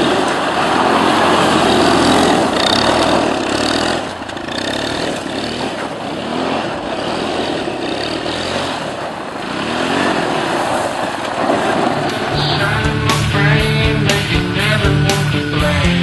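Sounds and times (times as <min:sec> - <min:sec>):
quad bike engine running: 0:00.0 - 0:16.0
steady rushing noise: 0:00.0 - 0:16.0.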